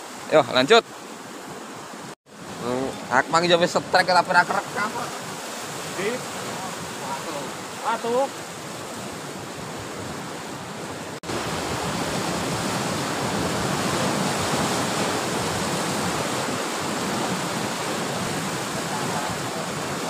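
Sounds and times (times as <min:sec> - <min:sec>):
sea surf breaking on rocks: 0:00.0 - 0:20.0.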